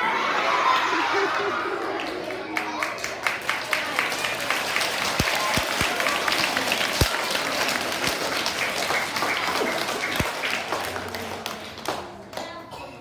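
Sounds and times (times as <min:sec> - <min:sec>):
children applauding: 0:00.5 - 0:12.6.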